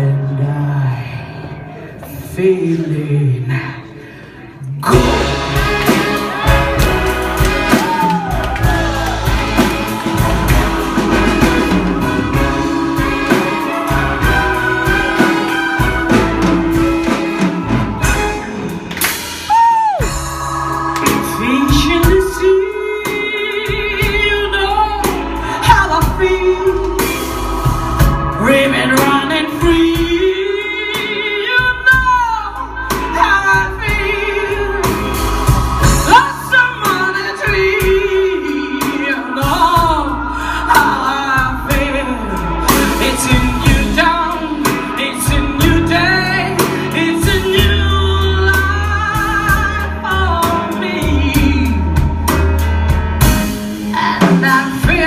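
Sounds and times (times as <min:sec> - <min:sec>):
person singing with vibrato: 0:00.0 - 0:18.9, 0:19.5 - 0:52.4
instrumental accompaniment: 0:04.9 - 0:55.0.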